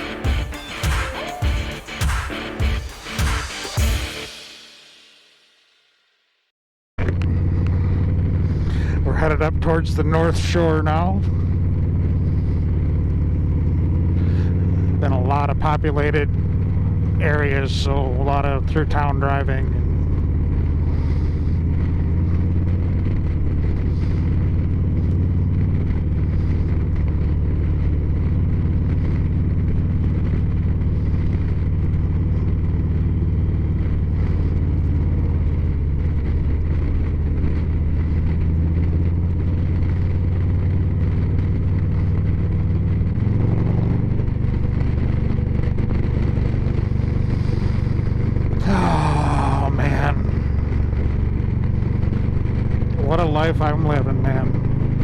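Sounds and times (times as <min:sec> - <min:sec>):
motorcycle engine running: 0:00.0 - 0:05.4, 0:07.0 - 0:55.0.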